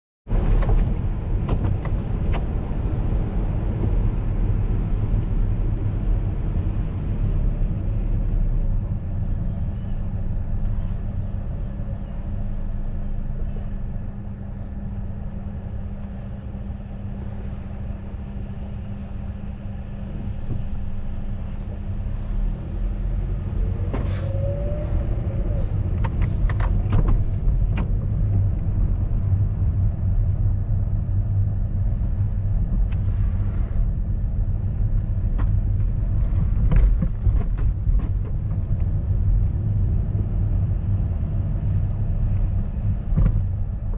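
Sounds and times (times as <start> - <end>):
car engine and tyres rumbling: 0.2 - 43.9.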